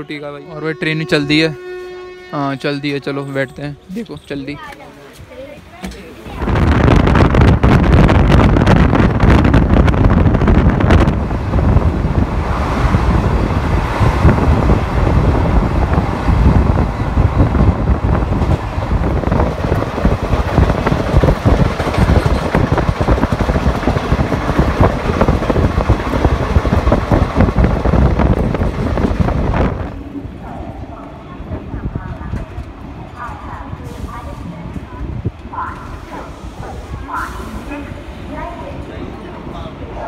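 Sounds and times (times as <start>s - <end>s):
train running on the track: 0.0s - 40.0s
wind buffeting the microphone: 6.2s - 40.0s.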